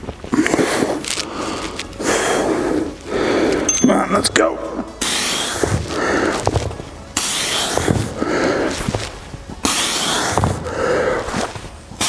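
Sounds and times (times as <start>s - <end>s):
man breathing hard: 0.3s - 3.7s, 4.9s - 12.0s.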